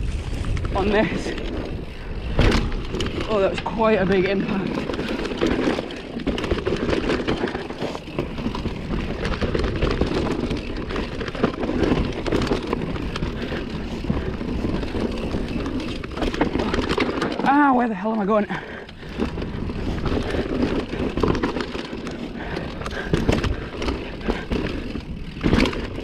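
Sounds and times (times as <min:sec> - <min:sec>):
bike clattering over bumps: 0:00.0 - 0:26.0
bike tyres on dirt: 0:00.0 - 0:26.0.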